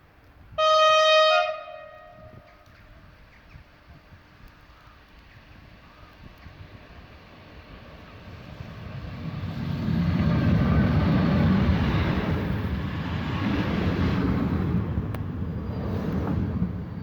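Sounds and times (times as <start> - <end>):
train rumbling past: 0.1 - 17.0.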